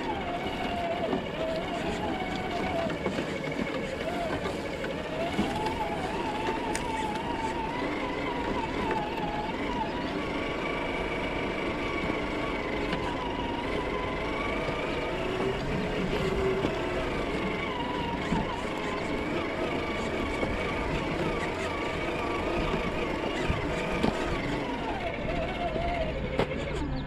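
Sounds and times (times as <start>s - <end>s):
rc car motor whining: 0.0s - 27.0s.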